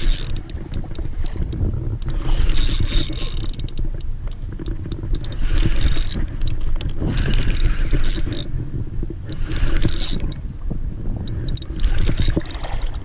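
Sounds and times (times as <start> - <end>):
small clicks: 0.0 - 8.5, 9.2 - 10.5, 11.2 - 13.0
wind rumbling on microphone: 0.0 - 13.0.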